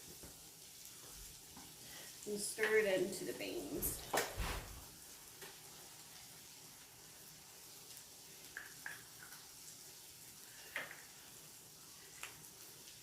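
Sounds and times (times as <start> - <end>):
beans sizzling in a pan: 0.0 - 13.0.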